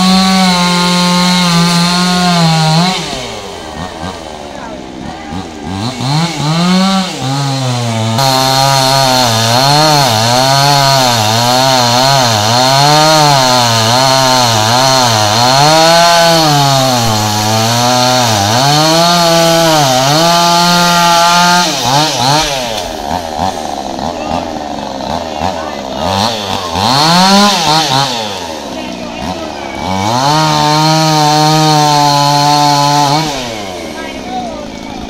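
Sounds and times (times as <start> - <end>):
chainsaw revving and cutting wood: 0.0 - 35.0.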